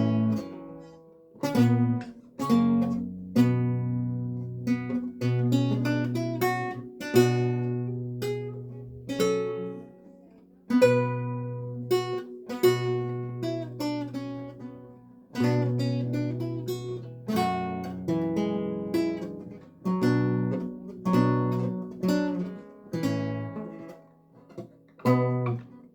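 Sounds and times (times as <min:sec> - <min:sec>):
solo lute playing: 0:00.0 - 0:25.9.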